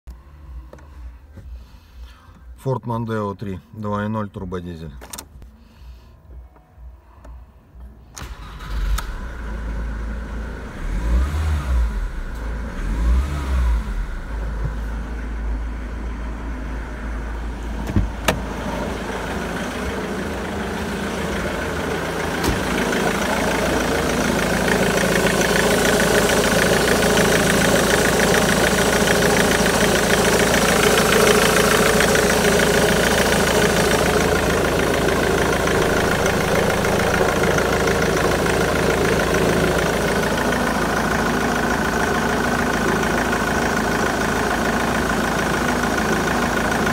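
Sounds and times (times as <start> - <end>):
diesel engine starting and idling: 7.8 - 46.9
diesel engine revving: 8.2 - 46.9.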